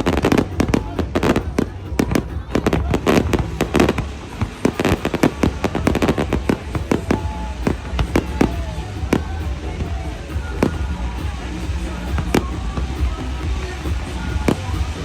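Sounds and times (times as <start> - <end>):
fireworks bursting: 0.0 - 15.0
music playing: 0.0 - 15.0.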